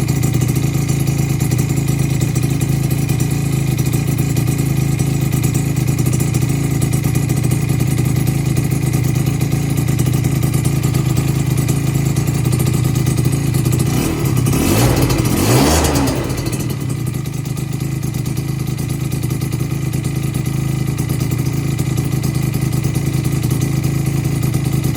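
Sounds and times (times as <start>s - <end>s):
two-stroke engine idling and revving: 0.0s - 24.9s.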